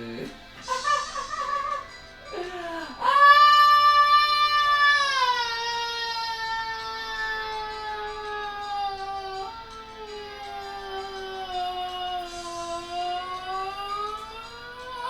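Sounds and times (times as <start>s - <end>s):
person wailing long high note: 0.0s - 15.0s.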